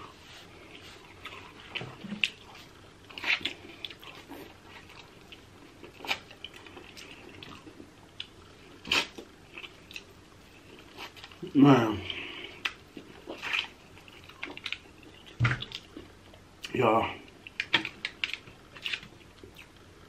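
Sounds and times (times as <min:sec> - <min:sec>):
wet chewing and smacking: 0:00.5 - 0:19.9.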